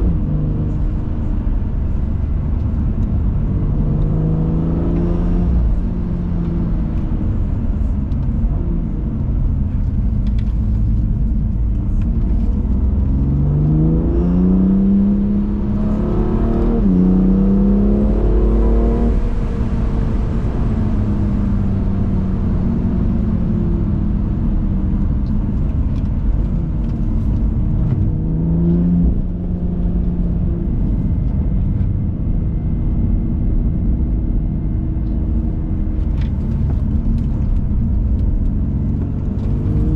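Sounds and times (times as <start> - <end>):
car engine accelerating: 0.0 - 39.9
tyre and road rumble: 0.0 - 39.9.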